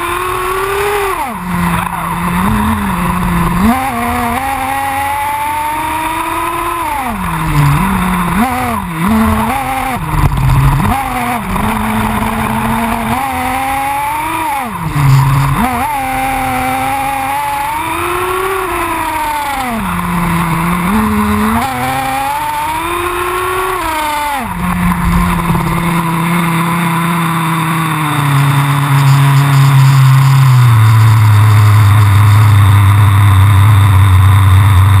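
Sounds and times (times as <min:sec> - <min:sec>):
rc buggy engine revving: 0:00.0 - 0:35.0.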